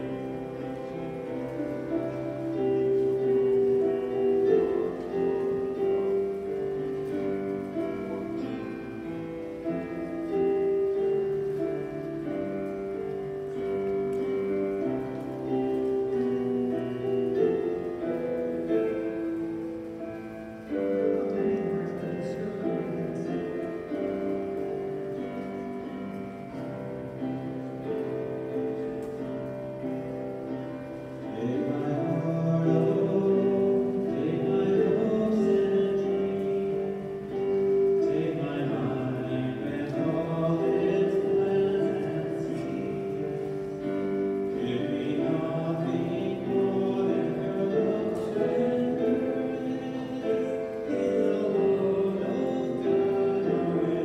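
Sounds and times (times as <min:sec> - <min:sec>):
church music on keyboard: 0:00.0 - 0:54.0.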